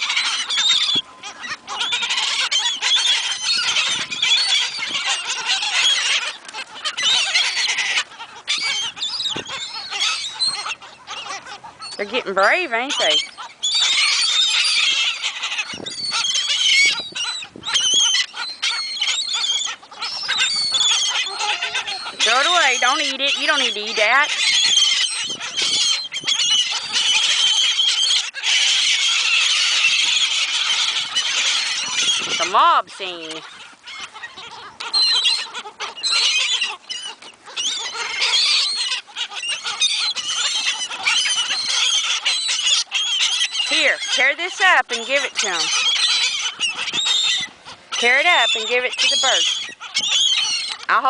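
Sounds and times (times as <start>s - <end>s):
seagulls calling: 0.0s - 51.0s.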